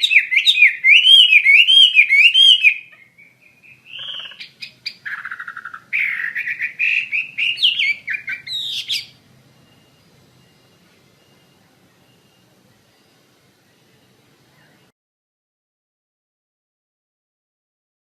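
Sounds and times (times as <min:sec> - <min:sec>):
songbird singing whistled notes: 0:00.0 - 0:14.9.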